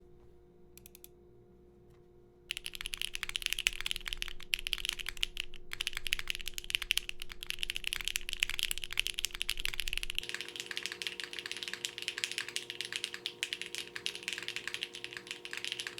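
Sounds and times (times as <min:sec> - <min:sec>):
mechanical keyboard typing: 0:02.5 - 0:15.9.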